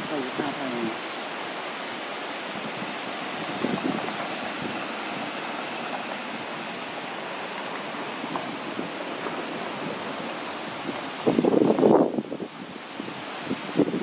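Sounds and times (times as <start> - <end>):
outdoor wind-like hiss: 0.0 - 14.0.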